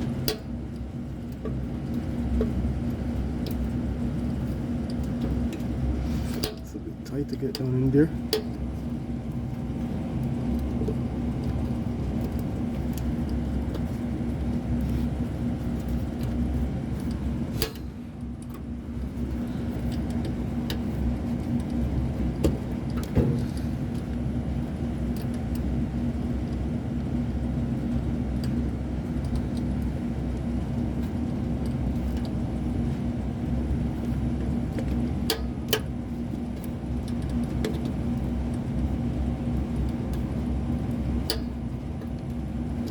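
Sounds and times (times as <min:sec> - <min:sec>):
machine hum: 0:00.0 - 0:42.9.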